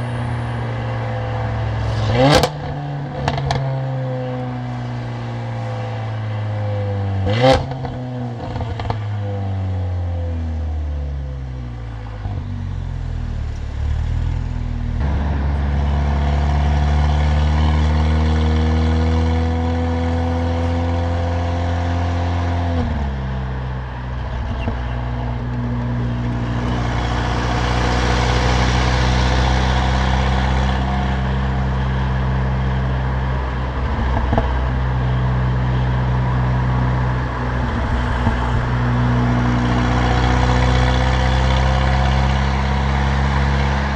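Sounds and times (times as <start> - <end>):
car engine and loud exhaust: 0.0 - 43.9.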